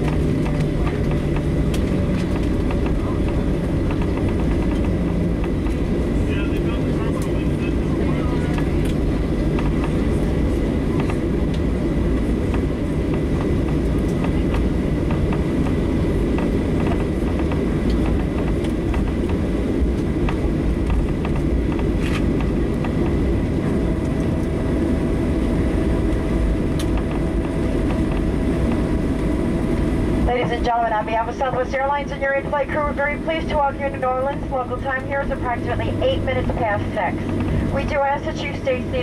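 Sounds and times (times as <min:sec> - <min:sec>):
airplane cabin rumble: 0:00.0 - 0:39.0
lower whine: 0:00.0 - 0:39.0.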